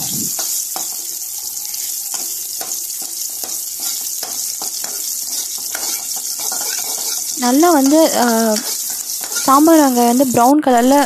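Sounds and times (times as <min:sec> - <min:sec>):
food sizzling in hot oil: 0:00.0 - 0:11.0
steel spoon scraping a pan: 0:00.3 - 0:11.0.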